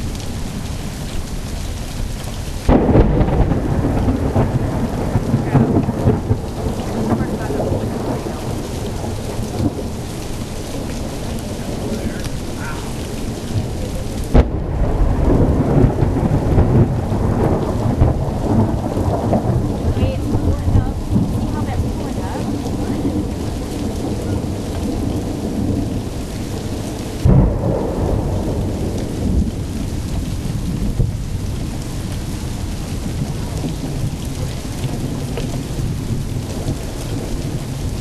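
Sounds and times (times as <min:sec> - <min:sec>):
steady rain: 0:00.0 - 0:38.0
thunder cracks and rumbling: 0:02.6 - 0:38.0.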